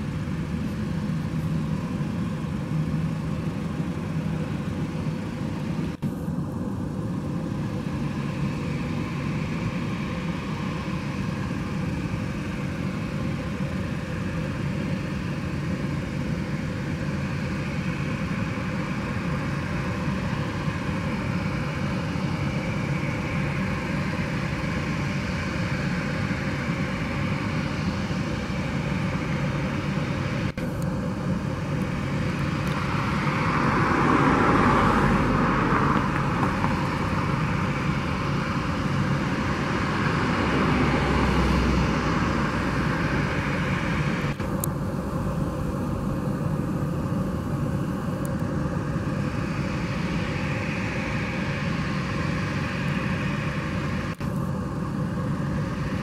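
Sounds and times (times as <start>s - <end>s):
jet engines humming with whine: 0.0s - 56.0s.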